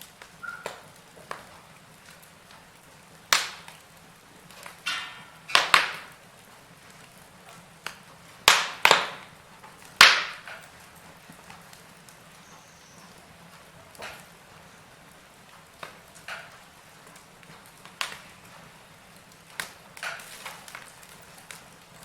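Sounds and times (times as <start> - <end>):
faint steady hiss: 0.0 - 22.0
fire pops and snaps: 0.0 - 22.0
wood fire crackling: 0.0 - 22.0.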